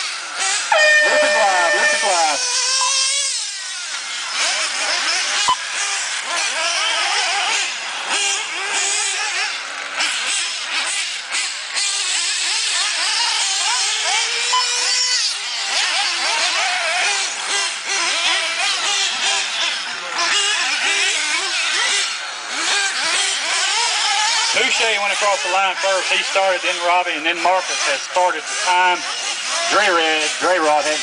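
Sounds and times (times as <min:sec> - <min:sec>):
small engines buzzing and revving: 0:00.0 - 0:31.0.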